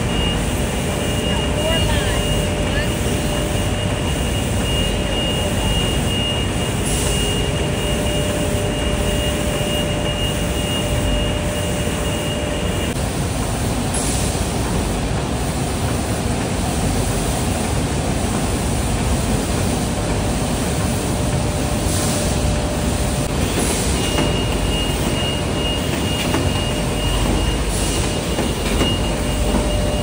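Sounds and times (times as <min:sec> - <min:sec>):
factory machinery din: 0:00.0 - 0:30.0.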